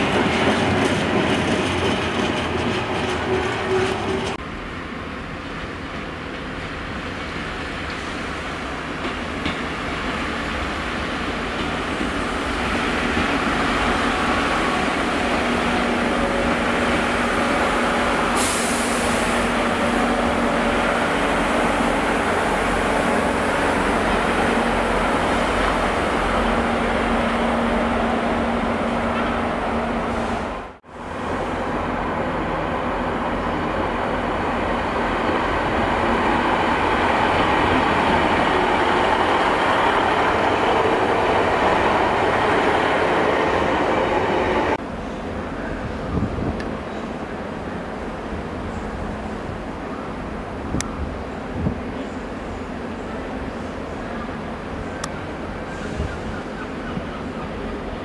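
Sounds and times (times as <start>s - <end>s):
diesel train approaching: 0.0s - 58.0s
diesel train engine drone: 0.0s - 58.0s.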